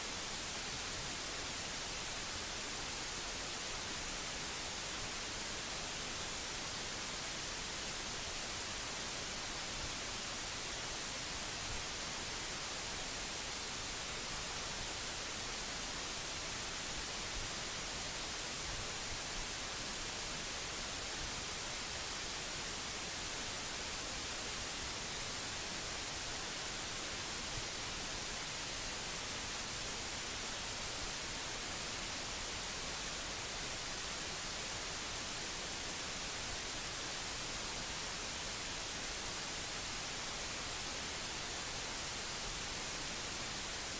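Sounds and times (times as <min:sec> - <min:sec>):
recording hiss: 0:00.0 - 0:43.9.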